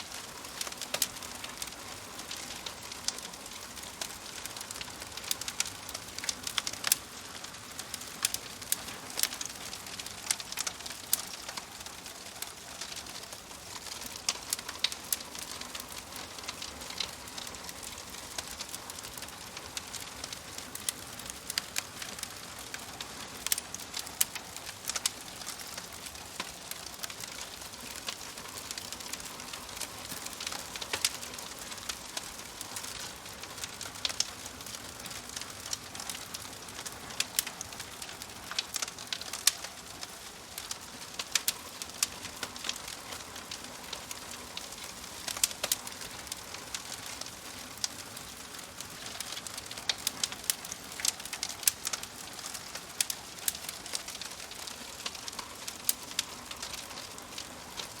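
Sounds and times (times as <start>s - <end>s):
soft fire hiss: 0.0s - 58.0s
wood fire crackling: 0.0s - 58.0s.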